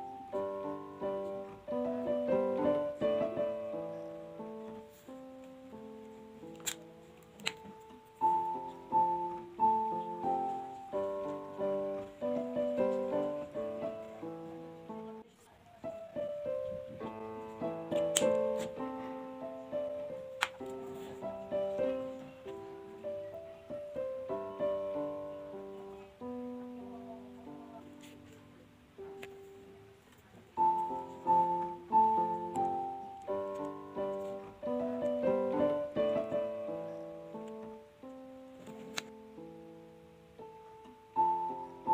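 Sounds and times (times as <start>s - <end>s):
solo piano music: 0.0s - 41.9s.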